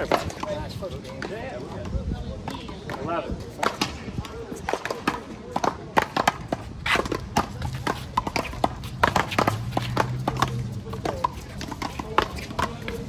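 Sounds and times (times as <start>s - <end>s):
shoes on court: 0.0s - 13.0s.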